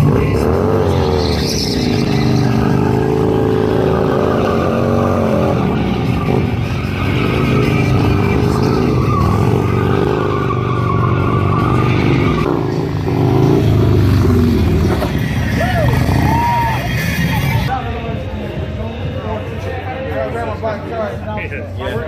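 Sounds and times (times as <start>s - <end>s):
motorcycle engines revving: 0.0s - 20.1s.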